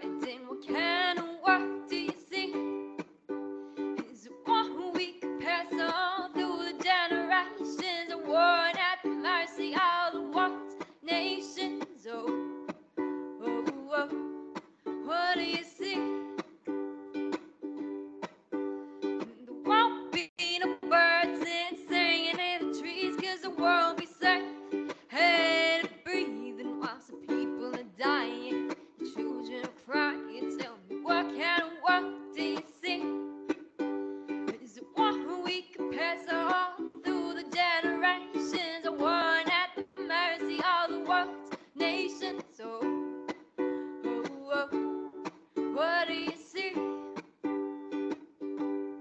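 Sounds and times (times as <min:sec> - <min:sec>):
person singing: 0:00.0 - 0:03.0, 0:03.6 - 0:16.4, 0:18.8 - 0:47.3.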